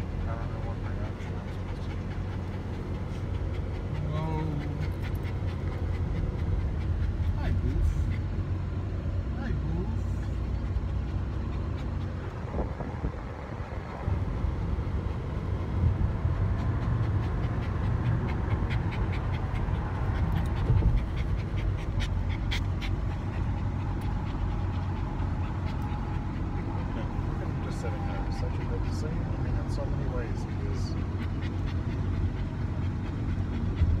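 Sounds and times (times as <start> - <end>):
dogs panting: 0.0 - 34.0
road and wind noise: 0.0 - 34.0.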